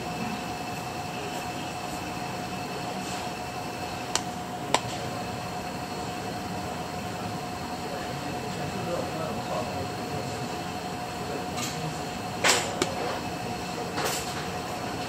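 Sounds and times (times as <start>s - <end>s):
electric motor hum and whine: 0.0s - 15.0s.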